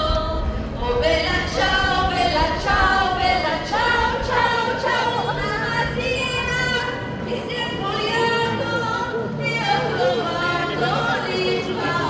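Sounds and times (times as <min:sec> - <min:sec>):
music: 0:00.0 - 0:12.0
voices singing long held notes: 0:00.0 - 0:12.0.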